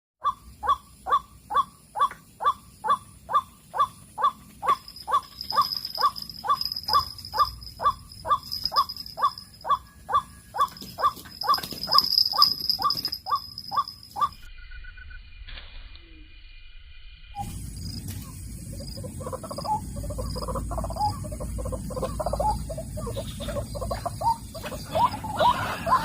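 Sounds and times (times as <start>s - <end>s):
waterhen calling: 0.2s - 14.5s, 17.4s - 26.0s
high-pitched whine: 4.4s - 26.0s.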